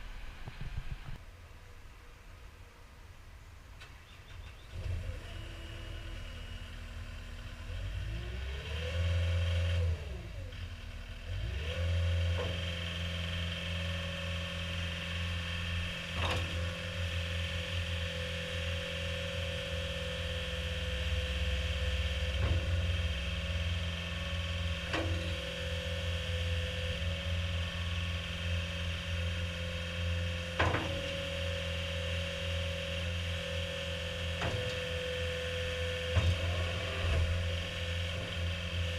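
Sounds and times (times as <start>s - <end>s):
diesel engine revving: 4.4s - 38.9s.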